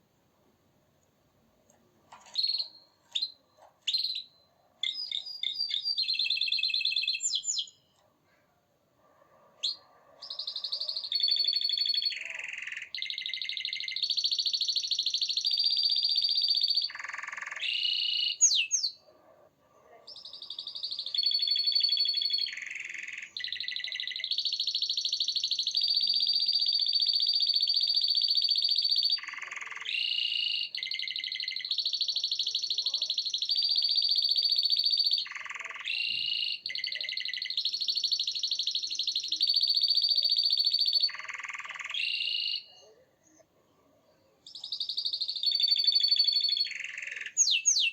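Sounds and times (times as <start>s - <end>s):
canary singing trills: 2.3s - 8.0s, 9.6s - 19.1s, 20.0s - 43.5s, 44.4s - 47.9s.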